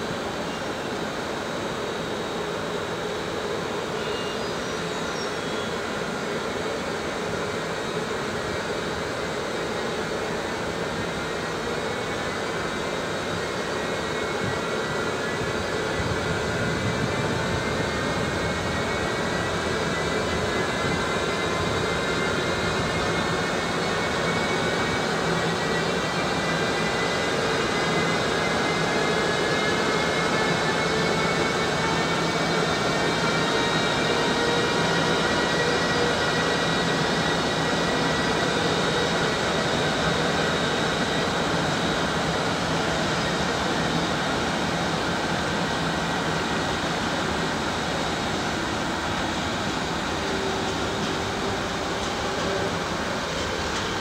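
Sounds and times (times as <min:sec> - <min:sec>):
electric locomotive hum and whine: 0:00.0 - 0:54.0.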